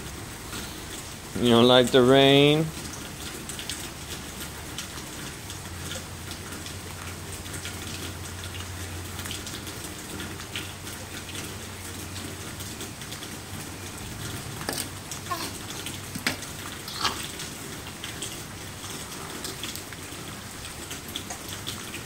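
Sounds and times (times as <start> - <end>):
rain on wet concrete: 0.0 - 22.0.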